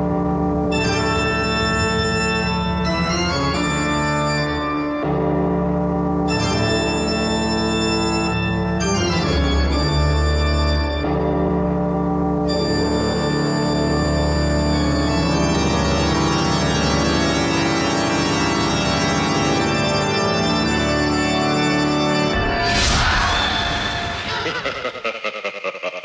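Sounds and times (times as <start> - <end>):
organ playing sustained chords: 0.0 - 22.7.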